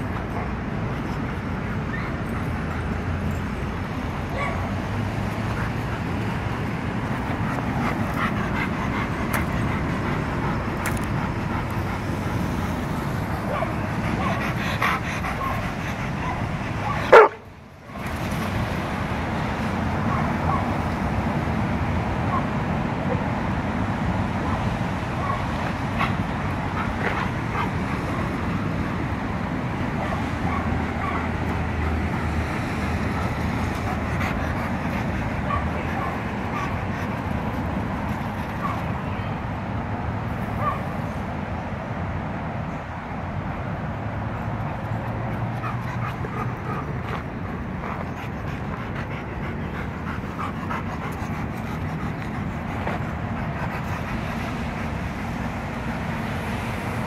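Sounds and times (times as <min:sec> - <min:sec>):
road traffic hum: 0:00.0 - 0:57.0.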